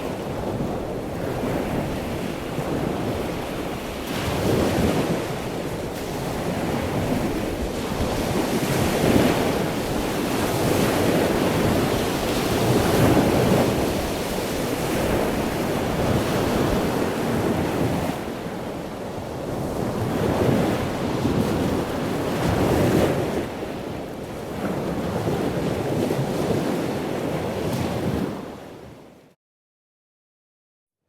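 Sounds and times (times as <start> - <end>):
waves breaking and washing in: 0.0 - 29.4.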